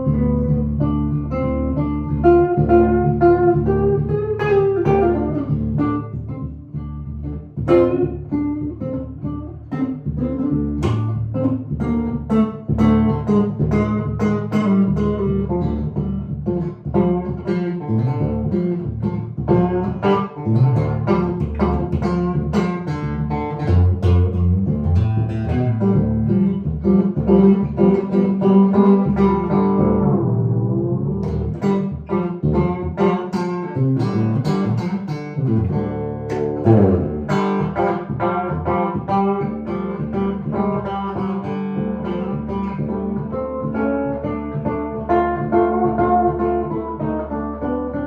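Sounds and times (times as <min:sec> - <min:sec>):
clean electric guitar playing: 0:00.0 - 0:48.0.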